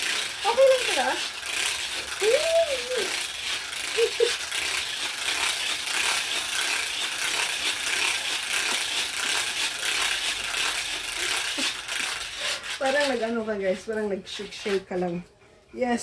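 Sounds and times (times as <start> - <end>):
plastic hula hoop rattling: 0.0 - 15.1.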